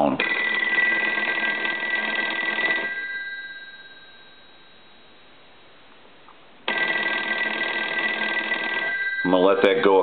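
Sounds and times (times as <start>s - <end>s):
telephone bell ringing: 0.2s - 5.4s, 6.7s - 10.0s.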